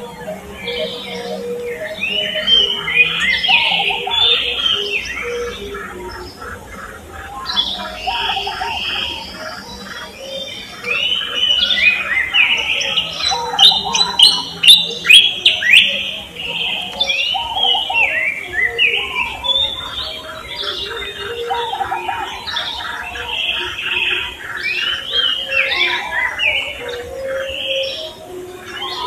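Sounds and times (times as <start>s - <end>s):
birds chirping: 0.0s - 29.0s
sharp falling bird calls: 0.0s - 29.0s.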